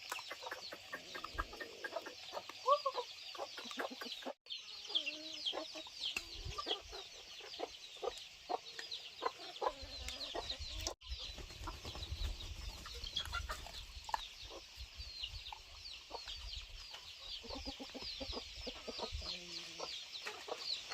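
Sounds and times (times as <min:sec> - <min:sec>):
chickens clucking: 0:00.0 - 0:20.9
chorus of high peeps: 0:00.0 - 0:20.9.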